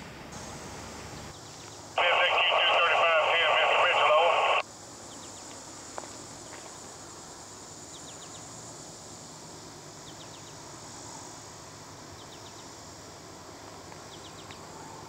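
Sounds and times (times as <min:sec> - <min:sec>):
insects buzzing drone: 0:00.3 - 0:15.0.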